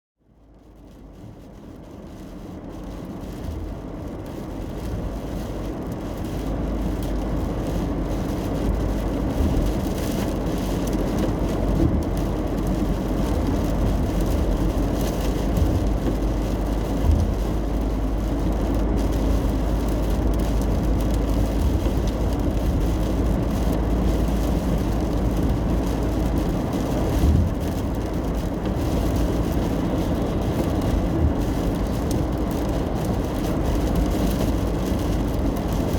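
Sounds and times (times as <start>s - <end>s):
road and tyre rumble: 0.2s - 35.9s
hiss of rain and spray: 0.6s - 35.9s.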